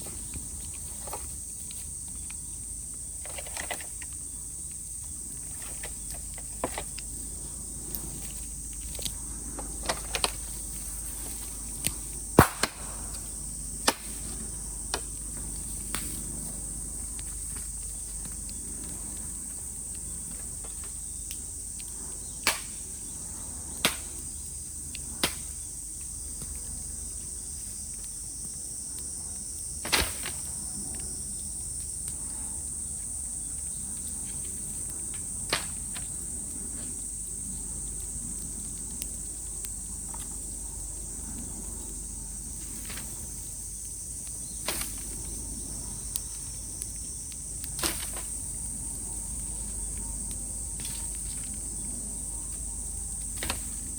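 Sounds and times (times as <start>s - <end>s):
bamboo popping in bonfire: 0.0s - 53.9s
cicadas droning: 0.0s - 53.9s.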